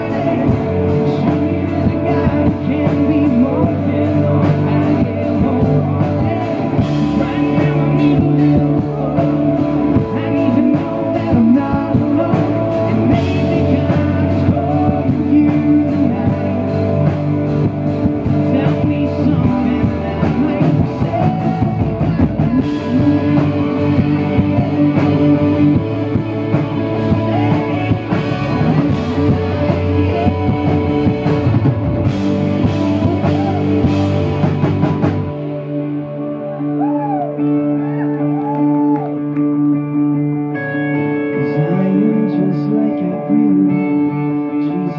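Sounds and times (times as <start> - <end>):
man singing lead: 0.0 - 35.5, 36.2 - 44.9
drum kit: 0.0 - 36.0
bass guitar: 0.0 - 44.9
electric guitar: 0.0 - 44.9.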